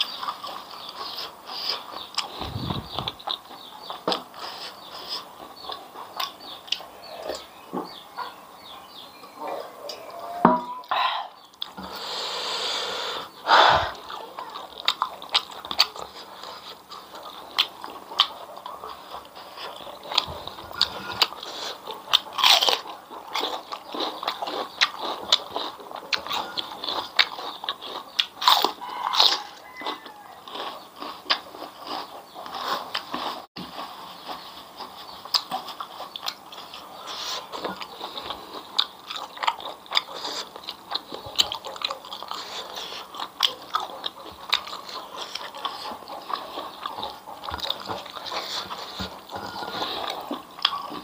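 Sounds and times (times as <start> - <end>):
crunchy biting and wet chewing: 0.0 - 8.0, 11.4 - 12.7, 13.4 - 51.0.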